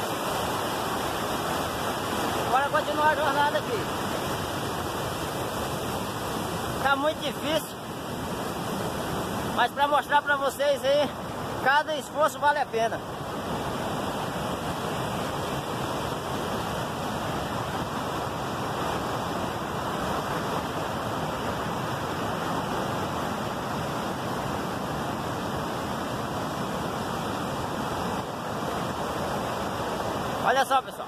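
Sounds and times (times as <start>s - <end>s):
river water rushing over rapids: 0.0s - 31.0s.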